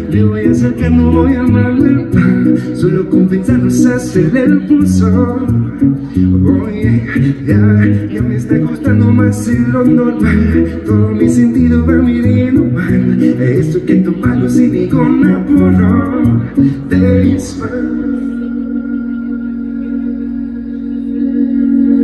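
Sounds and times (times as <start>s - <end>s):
acoustic guitar: 0.0s - 22.0s
deep bass notes: 0.0s - 22.0s
man singing into a microphone: 0.0s - 22.0s.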